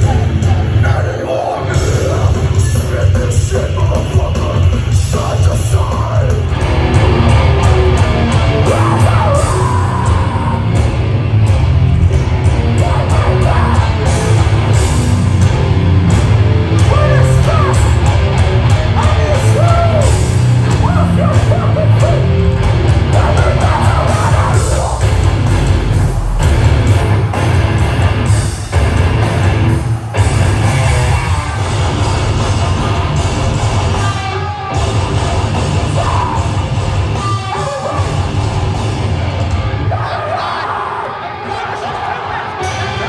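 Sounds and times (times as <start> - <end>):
distorted guitars: 0.0 - 43.0
heavy rock band playing: 0.0 - 43.0
pounding drums: 0.0 - 43.0
yelled vocals: 0.0 - 43.0.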